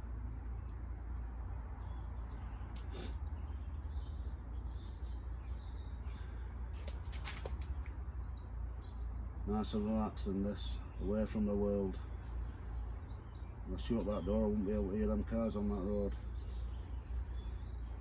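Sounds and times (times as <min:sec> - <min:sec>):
birds chirping: 0:00.0 - 0:18.0
distant road traffic rumble: 0:00.0 - 0:18.0.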